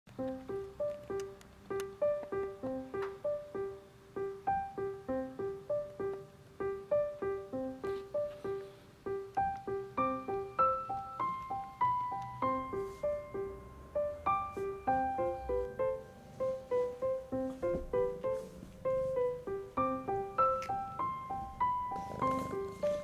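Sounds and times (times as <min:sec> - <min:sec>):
piano music: 0:00.1 - 0:23.0.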